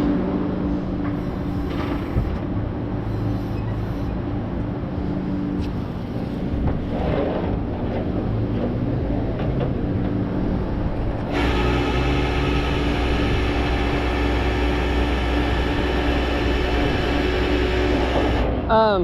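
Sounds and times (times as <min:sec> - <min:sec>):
vehicle engine idling: 0:00.0 - 0:18.8.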